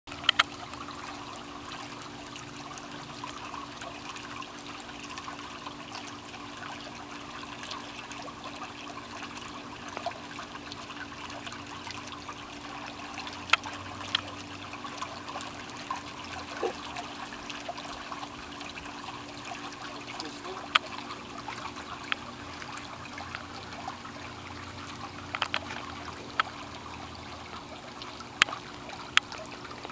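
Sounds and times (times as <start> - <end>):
low steady hum: 0.1 - 29.9
water trickling: 0.1 - 29.9.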